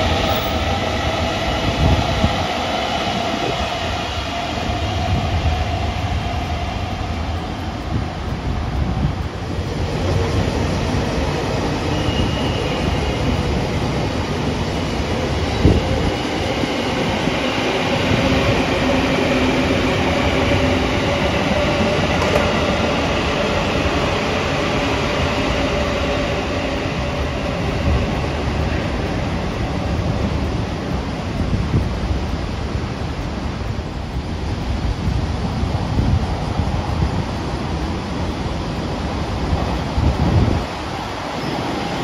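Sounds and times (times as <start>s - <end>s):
train rolling on rails: 0.0s - 42.0s.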